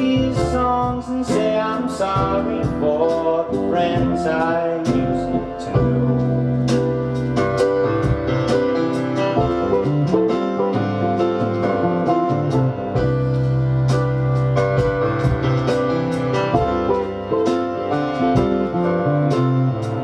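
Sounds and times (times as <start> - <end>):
piano and guitar music: 0.0 - 20.0.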